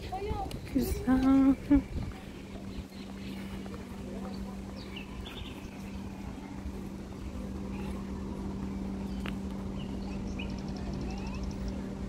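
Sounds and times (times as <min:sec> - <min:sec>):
distant motor hum: 0:00.0 - 0:12.0
small birds chirping: 0:00.0 - 0:12.0.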